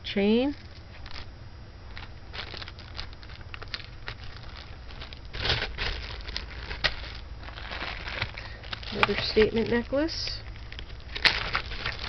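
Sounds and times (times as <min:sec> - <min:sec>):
plastic bags rustling: 0:00.4 - 0:12.0.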